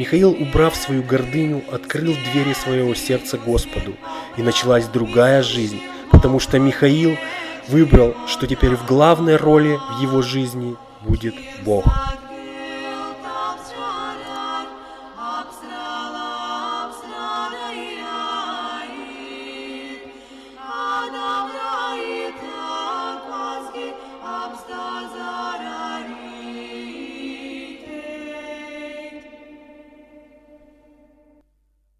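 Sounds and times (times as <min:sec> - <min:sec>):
voices singing: 0:00.0 - 0:30.6.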